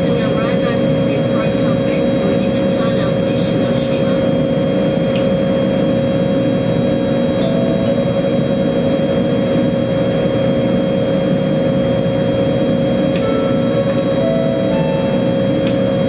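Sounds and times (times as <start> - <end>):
boat turbines droning: 0.0 - 16.0.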